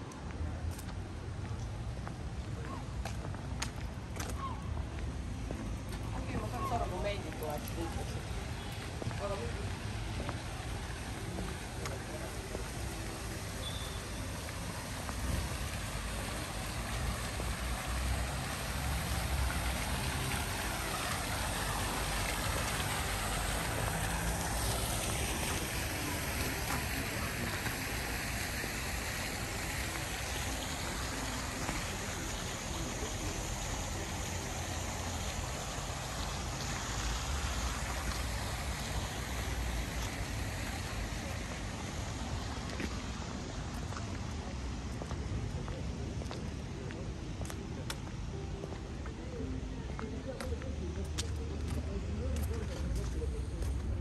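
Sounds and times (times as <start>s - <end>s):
town ambience rushing wash: 0.0s - 54.0s.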